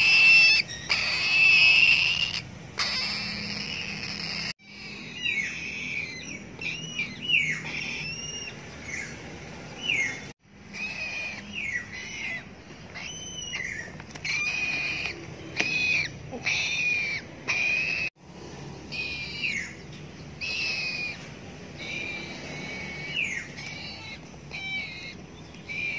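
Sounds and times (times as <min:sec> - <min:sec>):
parrot chicks shrill calling: 0:00.0 - 0:18.1, 0:18.9 - 0:25.9.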